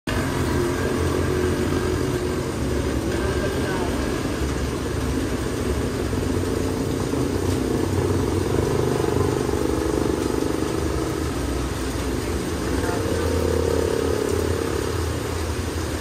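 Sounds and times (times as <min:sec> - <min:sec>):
heavy rain on metal awning: 0:00.1 - 0:16.0.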